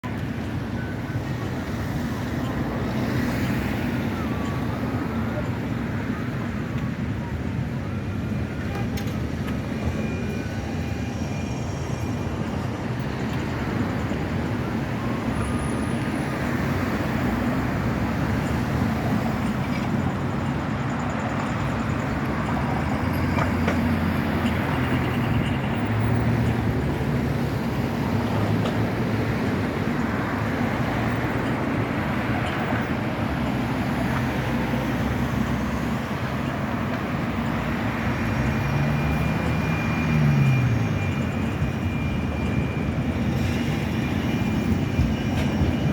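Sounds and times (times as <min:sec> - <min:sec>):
tram rumbling on rails: 0:00.0 - 0:45.9.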